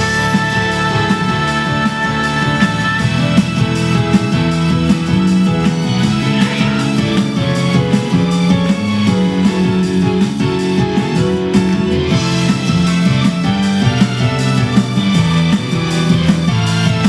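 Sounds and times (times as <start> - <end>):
pop song with strummed guitar: 0.0 - 17.0.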